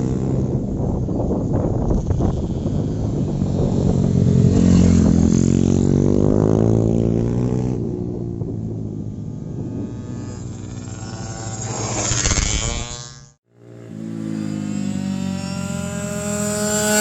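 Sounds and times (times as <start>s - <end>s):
motorcycle engine accelerating past: 0.0s - 17.0s.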